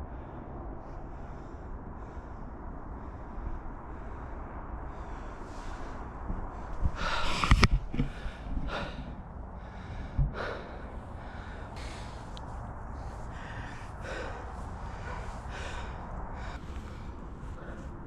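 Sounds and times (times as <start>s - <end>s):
man breathing heavily: 0.0s - 18.0s.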